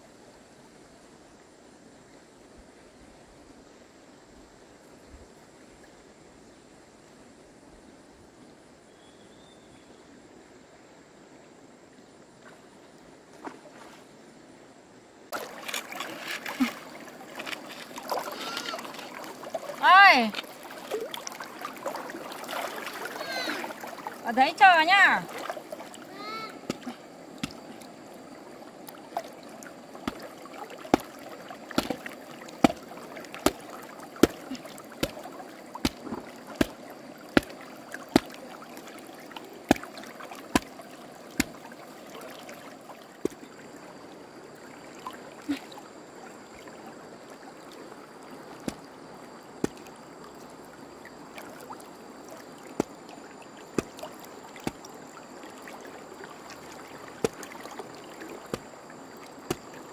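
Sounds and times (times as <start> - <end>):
stream water running: 0.0 - 59.9.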